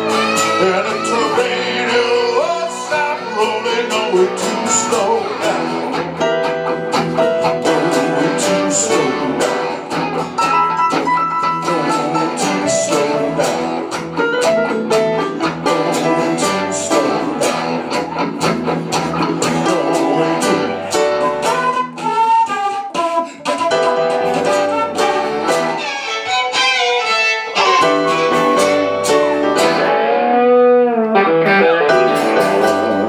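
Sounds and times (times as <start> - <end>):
instrumental rock band: 0.0 - 33.0.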